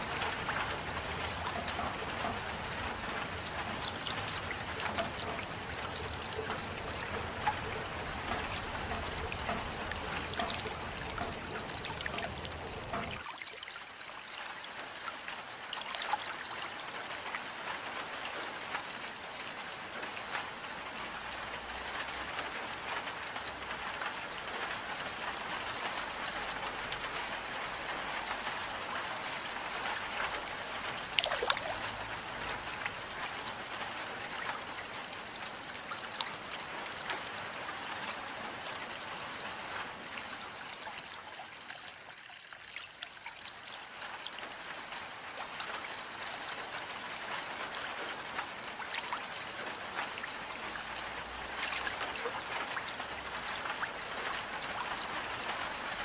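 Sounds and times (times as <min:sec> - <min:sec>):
steady rain: 0:00.0 - 0:56.0
water trickling and dripping: 0:00.0 - 0:56.0.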